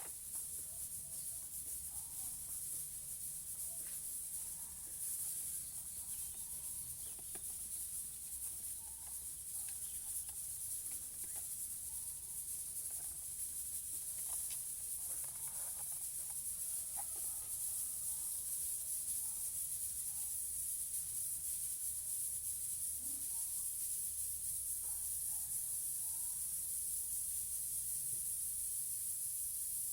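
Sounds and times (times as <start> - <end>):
steady high-pitched hiss: 0.0 - 29.9.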